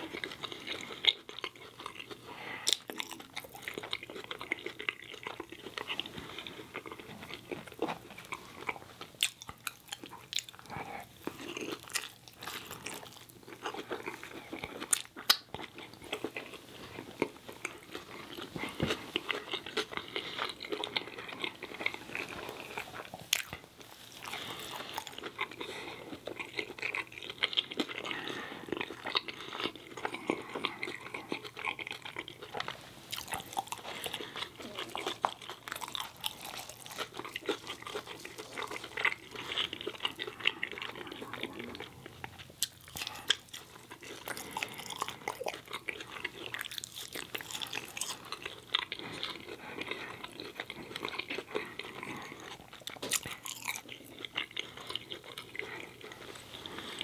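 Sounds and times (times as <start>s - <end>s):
man chewing fries: 0.0s - 57.0s.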